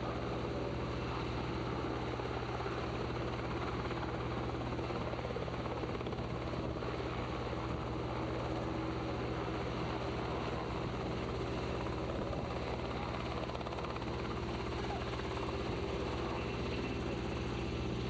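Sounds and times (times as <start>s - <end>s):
helicopter engine and rotor chop: 0.0s - 18.0s.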